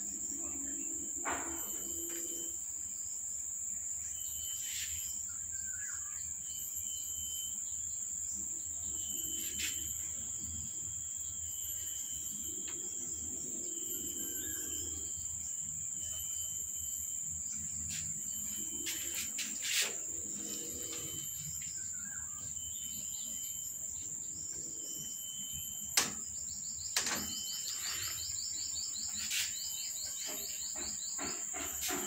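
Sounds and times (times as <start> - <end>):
faint insect chirring: 0.0 - 32.0
high-pitched insect drone: 0.0 - 32.0.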